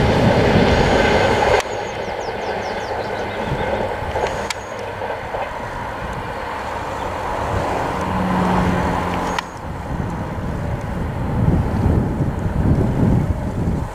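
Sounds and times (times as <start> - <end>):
train wheels rumbling on rail: 0.0 - 13.9.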